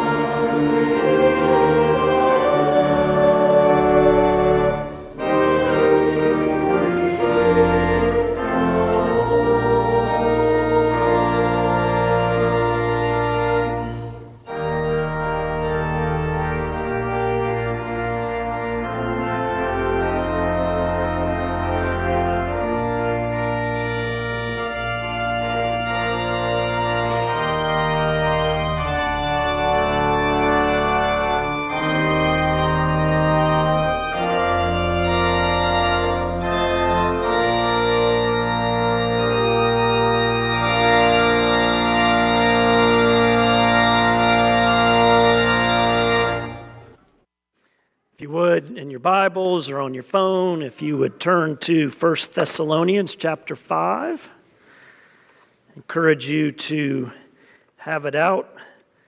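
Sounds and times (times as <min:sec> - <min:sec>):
church organ chords: 0:00.0 - 0:47.1, 0:48.2 - 0:54.8.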